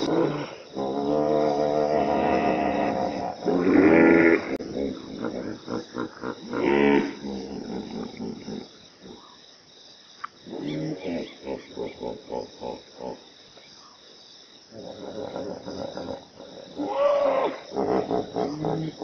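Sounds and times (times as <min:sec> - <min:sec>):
hippopotamus grunting and calling: 0:00.0 - 0:09.4, 0:10.4 - 0:13.4, 0:14.7 - 0:19.0.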